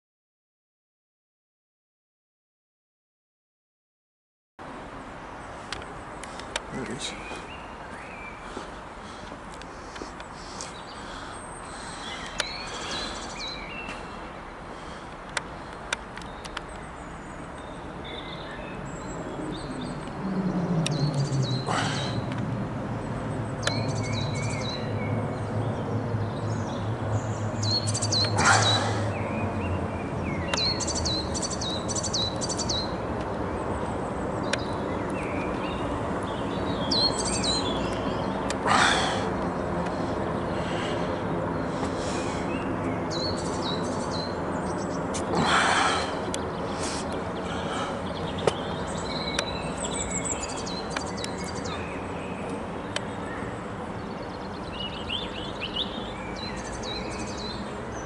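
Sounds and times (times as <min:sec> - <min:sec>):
small birds chirping: 0:04.9 - 0:58.0.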